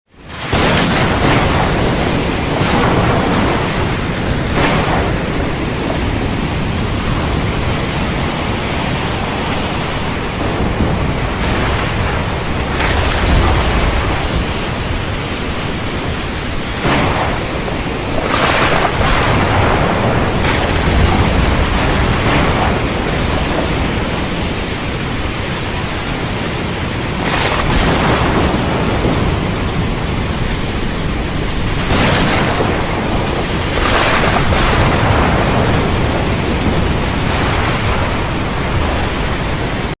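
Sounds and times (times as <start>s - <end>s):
rain rushing: 0.1s - 40.0s
thunder crashing: 0.2s - 40.0s.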